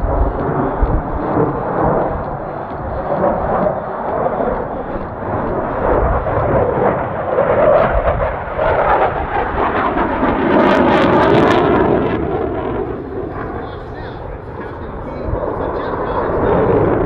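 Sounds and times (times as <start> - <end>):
jet fighter flying overhead: 0.0 - 17.0.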